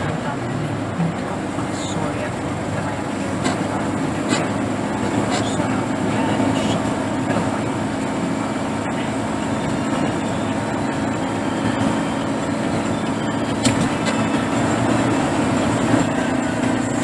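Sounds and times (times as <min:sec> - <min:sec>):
car cabin noise on wet road: 0:00.0 - 0:17.0.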